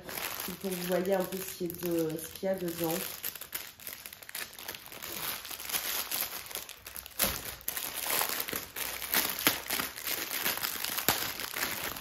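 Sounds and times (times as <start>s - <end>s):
plastic crunch: 0.0s - 12.0s
plastic packaging crinkling: 0.0s - 12.0s.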